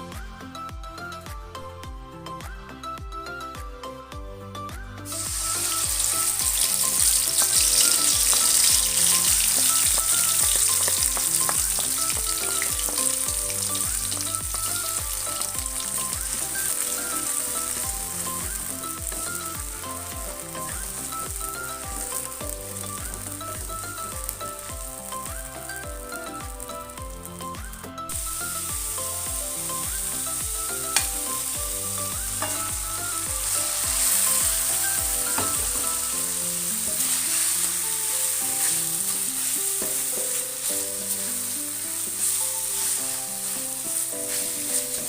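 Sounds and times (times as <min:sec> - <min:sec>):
background music with steady beat: 0:00.0 - 0:45.0
food sizzling in hot oil: 0:05.1 - 0:45.0.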